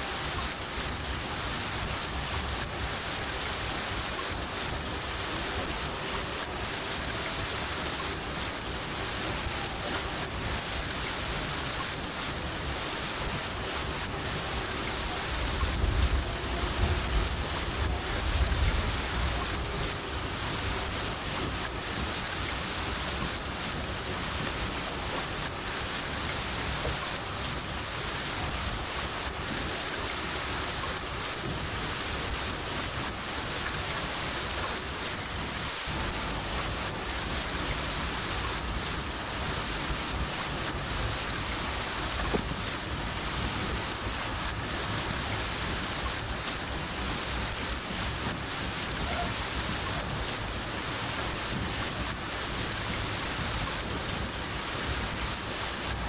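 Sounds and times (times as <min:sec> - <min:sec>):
continuous rain: 0:00.0 - 0:56.0
cricket chirping: 0:00.0 - 0:56.0.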